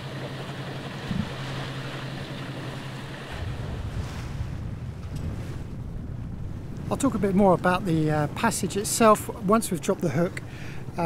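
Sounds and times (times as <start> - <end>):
sea washing past yacht: 0.0 - 11.0
wind rumble on microphone: 0.0 - 11.0.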